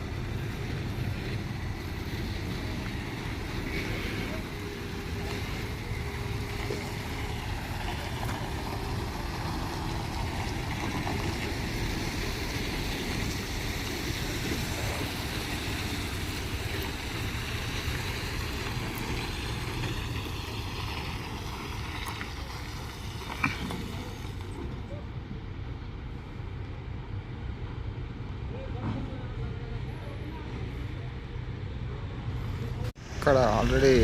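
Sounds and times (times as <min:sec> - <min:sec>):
heavy vehicle engines rumbling: 0:00.0 - 0:34.0
road noise: 0:00.0 - 0:34.0.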